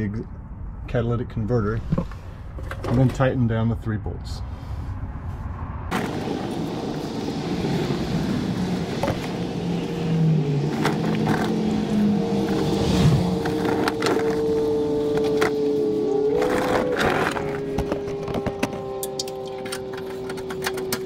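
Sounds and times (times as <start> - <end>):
steady rushing noise: 0.1 - 18.9
low hum rising in pitch: 3.9 - 21.0.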